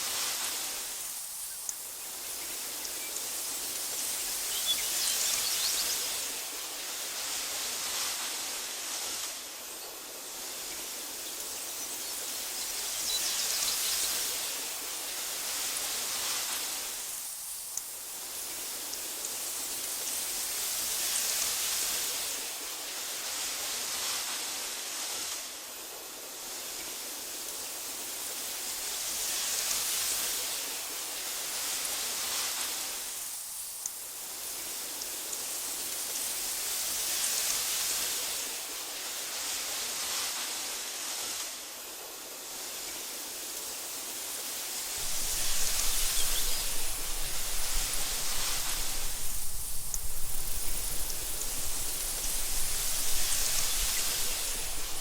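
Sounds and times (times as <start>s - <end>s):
wind through tall grass: 0.0s - 55.0s.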